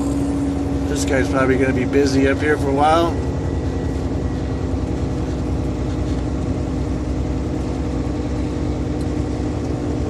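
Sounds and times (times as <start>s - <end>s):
road noise rumble: 0.0s - 10.0s
truck diesel engine droning: 0.0s - 10.0s.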